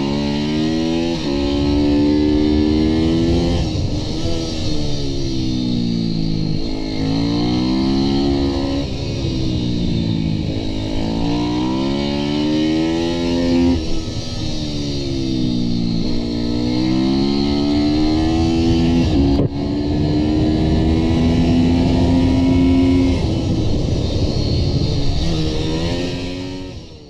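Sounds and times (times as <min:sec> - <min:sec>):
motorbike engine revving: 0:00.0 - 0:27.0.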